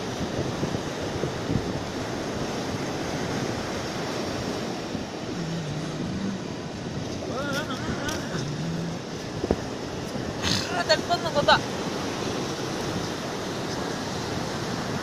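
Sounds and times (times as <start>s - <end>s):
sea surf rushing: 0.0s - 15.0s
wind on microphone: 0.0s - 15.0s.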